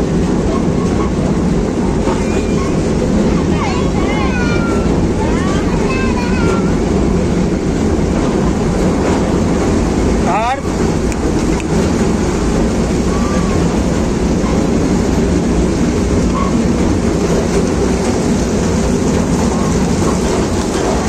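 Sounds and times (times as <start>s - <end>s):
ride train rumbling on track: 0.0s - 21.0s.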